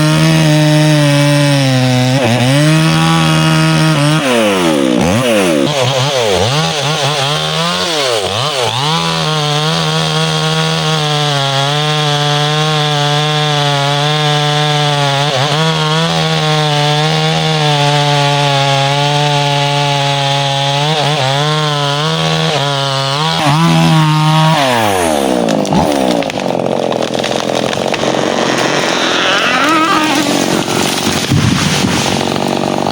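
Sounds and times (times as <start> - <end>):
chainsaw cutting timber: 0.0 - 32.9.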